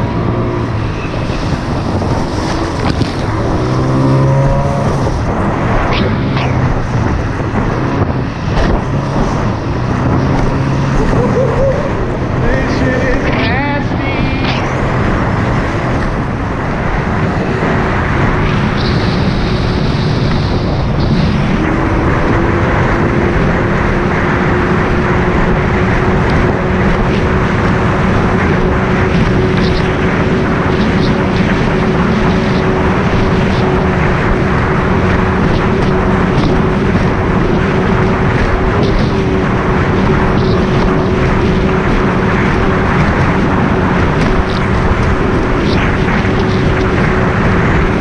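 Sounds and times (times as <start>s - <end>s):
wind noise on microphone: 0.0s - 48.0s.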